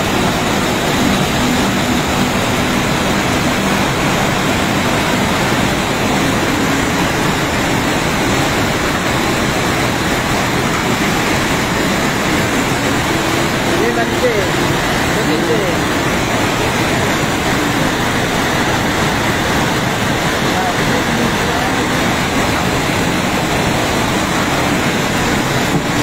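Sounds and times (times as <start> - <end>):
rushing flood torrent roar: 0.0 - 26.0.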